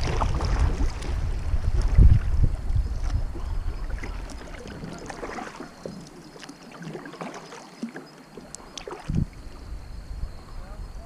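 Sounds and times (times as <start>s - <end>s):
water splashing and trickling: 0.0s - 10.5s
paddle in water: 0.0s - 11.0s.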